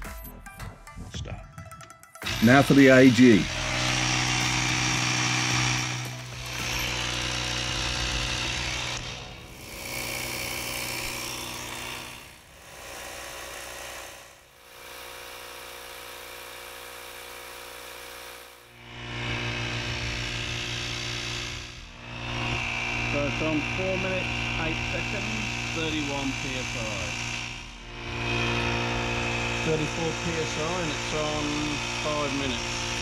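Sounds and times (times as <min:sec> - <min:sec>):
cordless tyre inflator running: 0:02.2 - 0:33.0.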